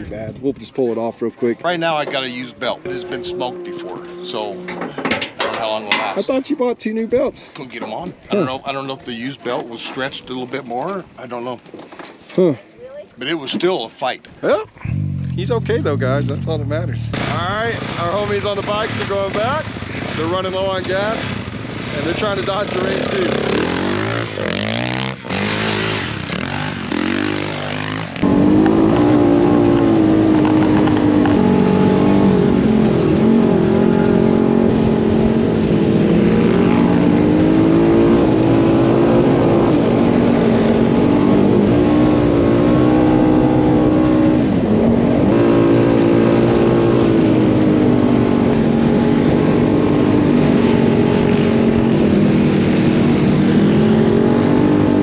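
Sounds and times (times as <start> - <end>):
off-road vehicle engine running: 0.0 - 7.3, 14.7 - 55.0.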